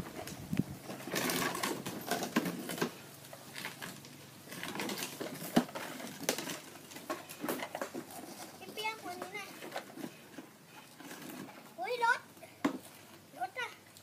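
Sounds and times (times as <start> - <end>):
plastic toy vehicles rattling: 0.0 - 13.8.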